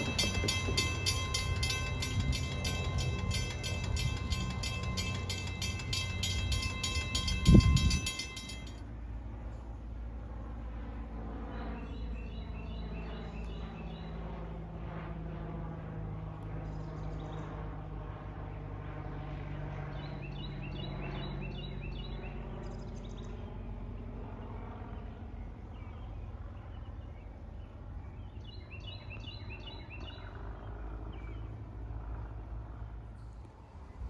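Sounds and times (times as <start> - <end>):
propeller plane droning overhead: 0.0 - 34.0.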